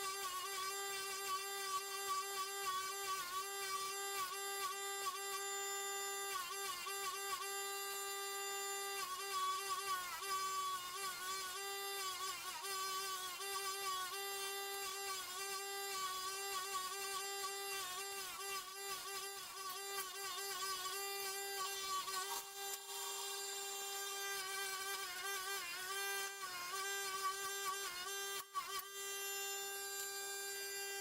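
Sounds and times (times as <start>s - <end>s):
power tool motor whining: 0.0s - 31.0s.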